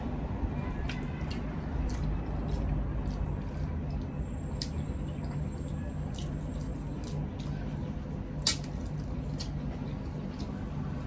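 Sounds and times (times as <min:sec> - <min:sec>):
steady low hum: 0:00.0 - 0:11.0
wet chewing and lip smacks: 0:00.8 - 0:07.8, 0:08.4 - 0:11.0.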